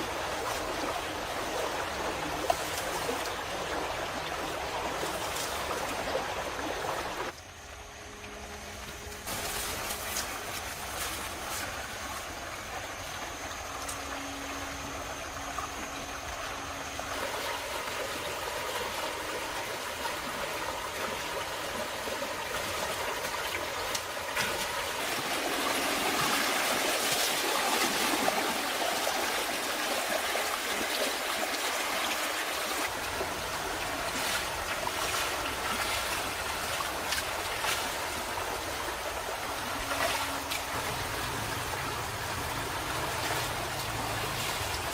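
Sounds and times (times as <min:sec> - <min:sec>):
water running and trickling: 0:00.0 - 0:44.9.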